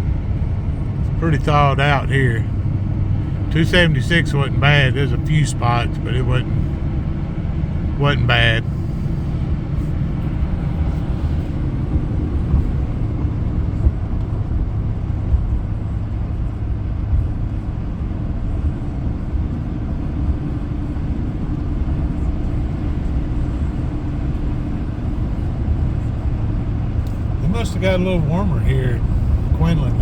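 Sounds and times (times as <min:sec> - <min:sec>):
car engine: 0:00.0 - 0:30.0.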